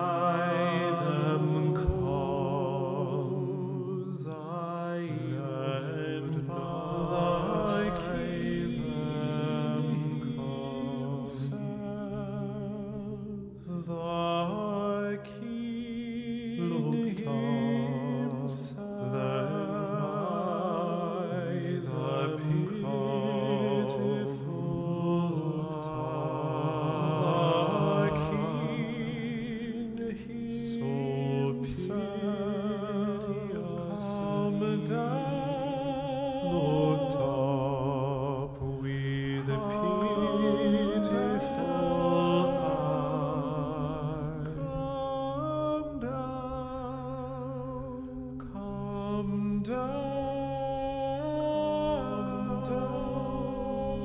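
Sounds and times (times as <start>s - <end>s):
layered voices chanting: 0.0s - 12.9s, 13.8s - 47.6s.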